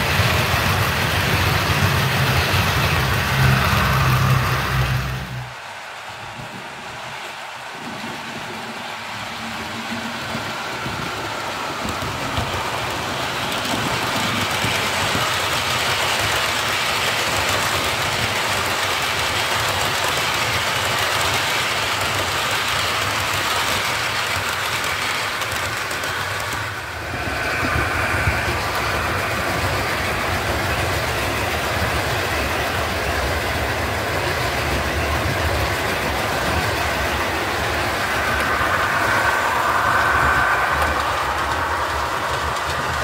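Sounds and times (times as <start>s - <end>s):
model train running on track: 0.0s - 43.0s.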